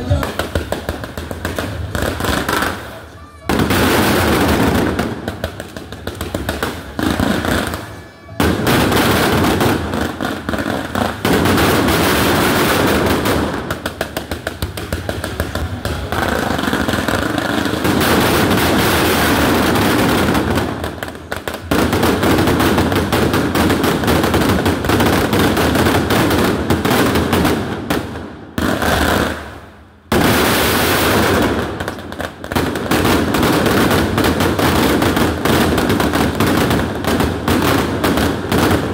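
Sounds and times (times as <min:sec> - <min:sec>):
fireworks banging and crackling: 0:00.0 - 0:38.9.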